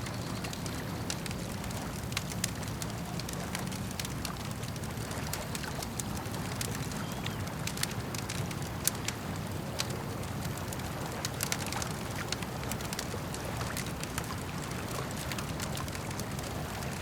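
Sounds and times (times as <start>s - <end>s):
campfire crackling: 0.0s - 17.0s
lake water washing: 0.0s - 17.0s.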